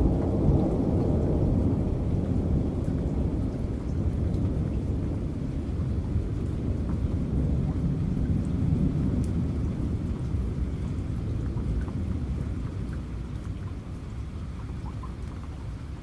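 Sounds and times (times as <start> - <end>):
low rumble of thunder: 0.0 - 16.0
steady rain: 0.0 - 16.0.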